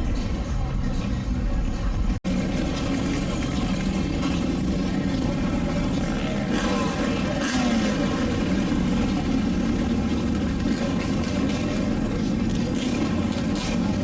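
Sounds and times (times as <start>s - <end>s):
car engine running: 0.0s - 14.0s
vehicle noise: 0.0s - 14.0s.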